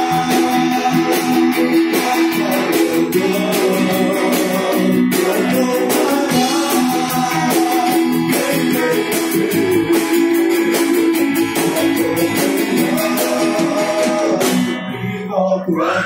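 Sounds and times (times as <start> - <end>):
guitar music over loudspeakers: 0.0 - 16.0.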